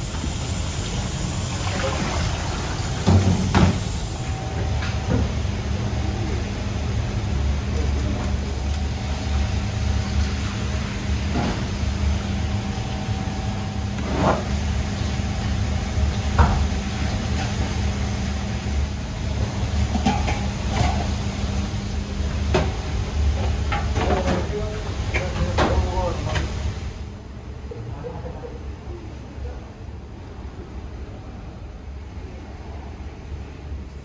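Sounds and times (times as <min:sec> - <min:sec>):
low hum of kitchen equipment: 0:00.0 - 0:34.0.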